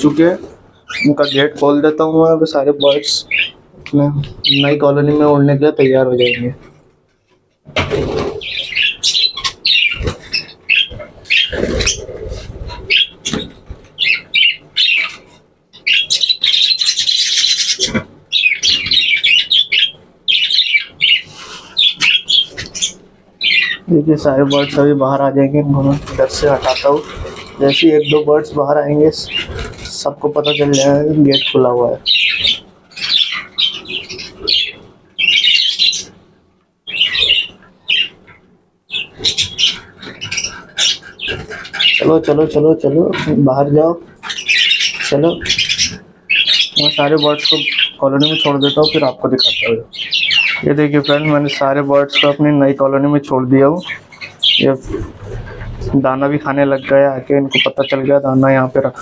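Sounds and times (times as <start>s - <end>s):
budgerigars chirping and chattering: 0.0s - 6.7s, 7.8s - 36.2s, 36.9s - 59.0s.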